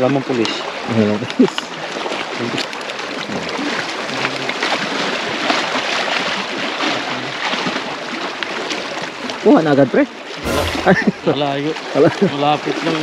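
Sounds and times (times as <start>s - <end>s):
lake waves lapping on rocks: 0.0s - 13.0s.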